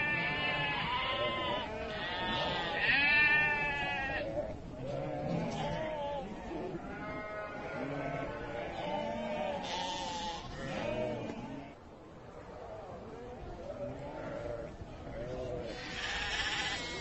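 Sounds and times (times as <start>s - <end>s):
sheep bleating: 0.0s - 11.8s, 13.9s - 17.0s.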